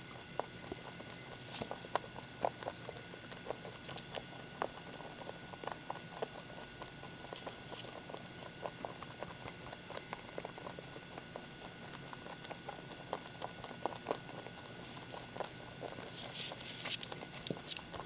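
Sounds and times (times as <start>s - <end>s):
rabbits crunching food: 0.0s - 18.0s.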